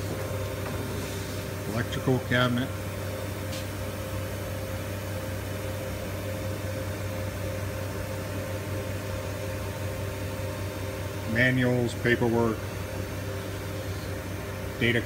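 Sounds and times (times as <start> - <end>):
electrical hum and fan whir: 0.0 - 15.0.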